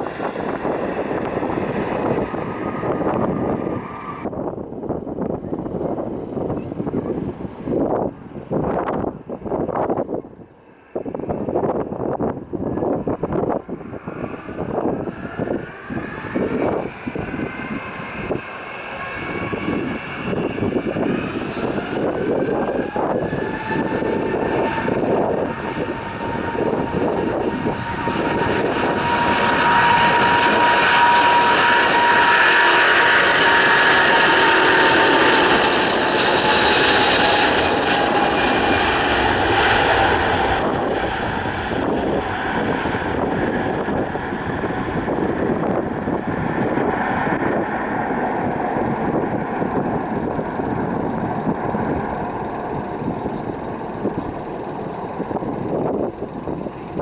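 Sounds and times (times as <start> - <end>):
jet engines passing: 0.0 - 57.0.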